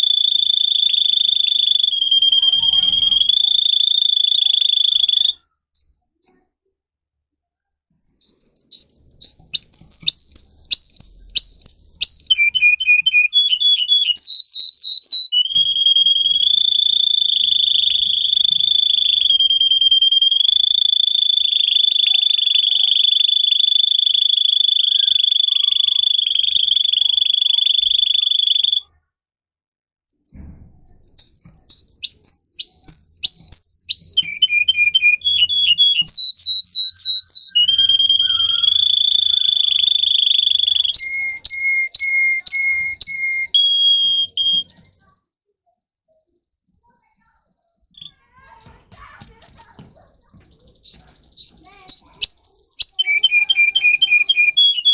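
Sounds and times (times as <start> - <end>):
canary singing: 0.0 - 6.4, 7.9 - 29.0, 30.1 - 45.2, 47.9 - 54.9.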